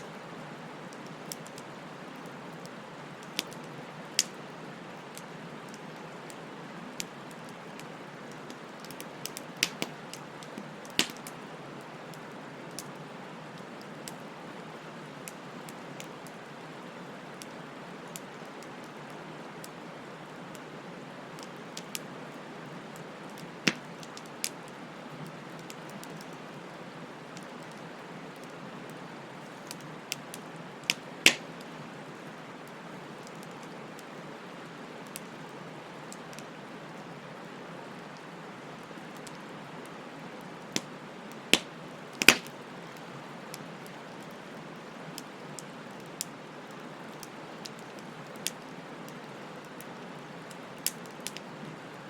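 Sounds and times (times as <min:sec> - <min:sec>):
wood fire crackling and popping: 0:00.8 - 0:13.0, 0:13.6 - 0:37.2, 0:38.0 - 0:51.7.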